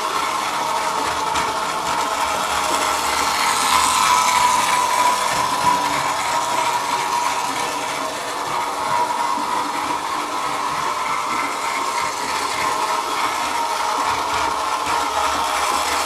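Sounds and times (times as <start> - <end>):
model train motor whirring: 0.0 - 16.0.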